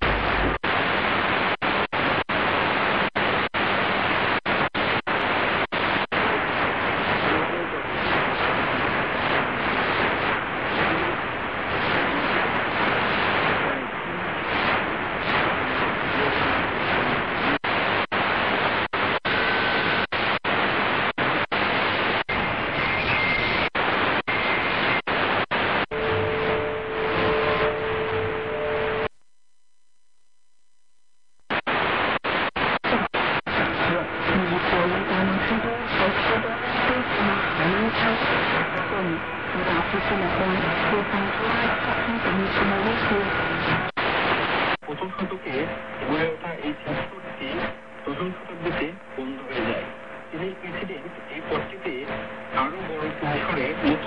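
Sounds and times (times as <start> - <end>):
radio static hiss: 0.0 - 54.0
steady radio tone: 0.0 - 54.0.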